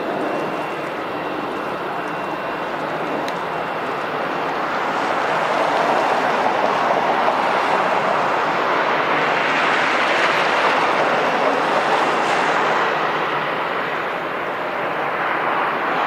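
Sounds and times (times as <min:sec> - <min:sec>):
jet airliner passing: 0:00.0 - 0:16.0.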